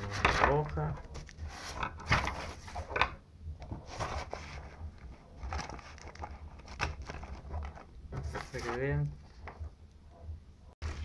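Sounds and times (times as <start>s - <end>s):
paper and pen handling: 0.0s - 3.0s, 3.6s - 9.7s.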